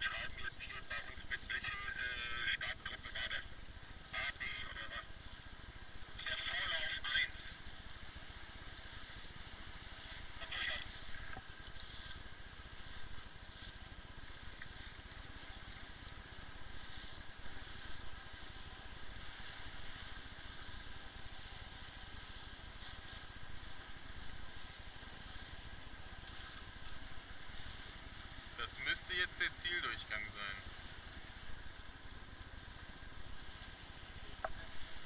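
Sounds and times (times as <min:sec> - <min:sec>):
hiss of water and wind: 0:00.0 - 0:35.0
motorboat engine running: 0:00.0 - 0:35.0.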